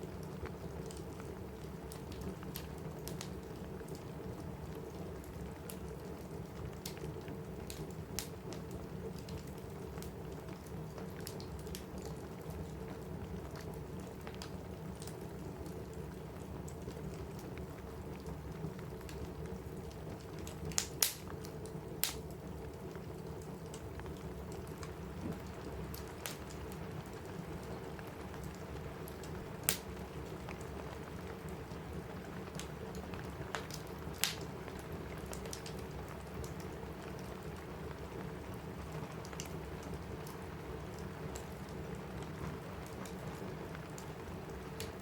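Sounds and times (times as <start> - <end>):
rain on a roof: 0.0 - 45.0
wood fire crackling and popping: 0.0 - 45.0.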